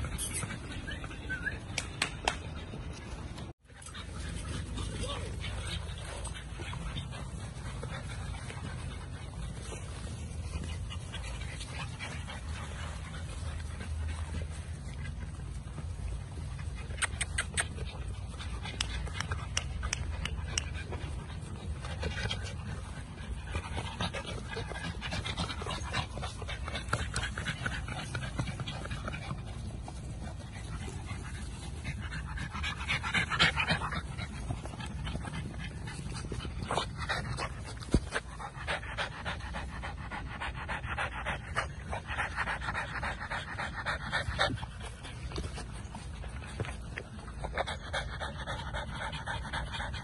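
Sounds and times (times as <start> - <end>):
puppy panting: 0.0 - 50.0.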